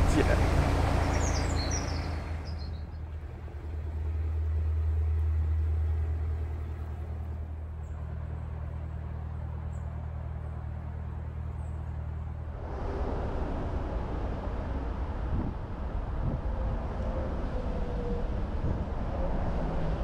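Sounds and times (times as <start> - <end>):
diesel engine running: 0.0 - 16.4.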